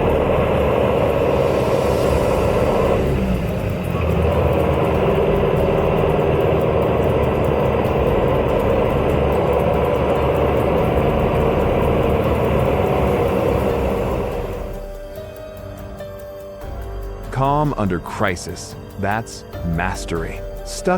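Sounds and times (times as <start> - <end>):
tractor diesel engine droning: 0.0 - 20.9.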